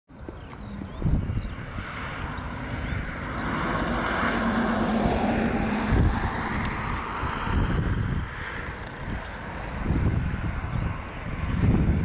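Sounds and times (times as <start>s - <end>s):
wind rumble on microphone: 0.1s - 12.0s
jet engine rush: 0.2s - 12.0s.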